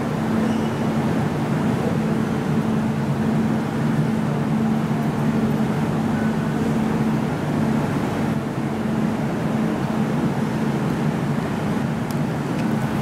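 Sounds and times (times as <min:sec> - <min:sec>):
train carriage rumble and hum: 0:00.0 - 0:13.0.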